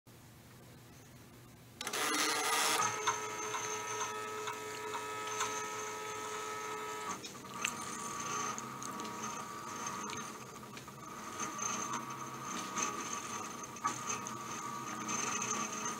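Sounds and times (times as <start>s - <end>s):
stepper motors whining: 1.8s - 15.9s.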